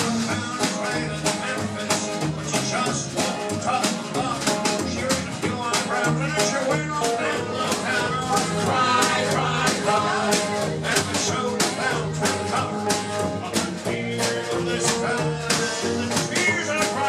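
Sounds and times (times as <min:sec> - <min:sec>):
bass guitar: 0:00.0 - 0:17.0
drums keeping a steady beat: 0:00.0 - 0:17.0
electric guitar: 0:00.0 - 0:17.0.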